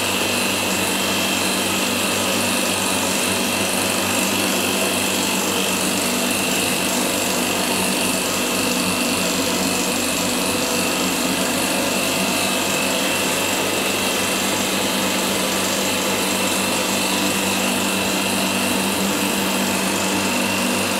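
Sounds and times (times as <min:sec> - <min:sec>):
pump humming: 0:00.0 - 0:20.9.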